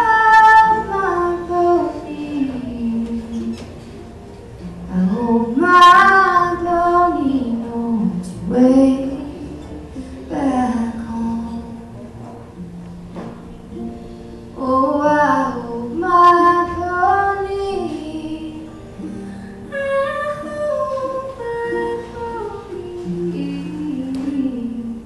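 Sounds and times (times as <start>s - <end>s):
woman singing folk song: 0.0s - 3.7s, 4.8s - 11.9s, 14.6s - 25.0s
acoustic string instrument: 0.0s - 25.0s.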